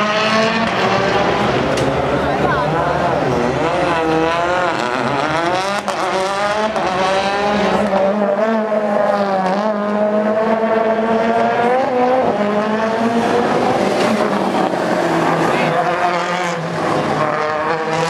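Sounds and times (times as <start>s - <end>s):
rally car engine revving hard: 0.0s - 18.0s.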